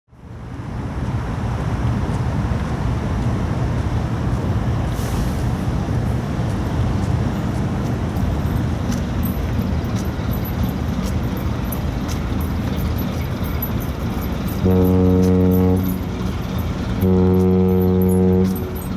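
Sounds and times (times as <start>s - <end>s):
wind: 0.1s - 18.9s
ship engine rumble: 0.2s - 18.9s
water noise: 0.7s - 18.9s.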